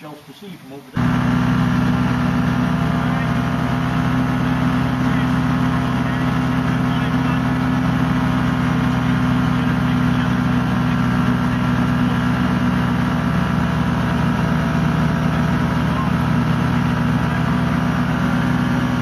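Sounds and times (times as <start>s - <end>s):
ultralight aircraft engine running: 1.0s - 19.0s.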